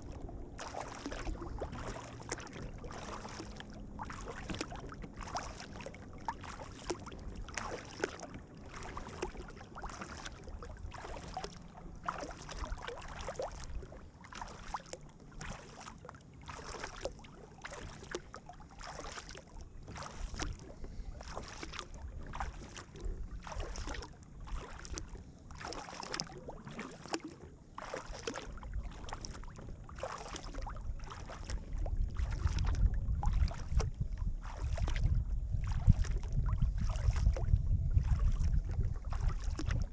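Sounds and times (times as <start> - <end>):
wind rumble on microphone: 0.0 - 15.7, 16.6 - 26.9, 28.0 - 39.9
kayak paddle splashing in water: 0.0 - 39.9.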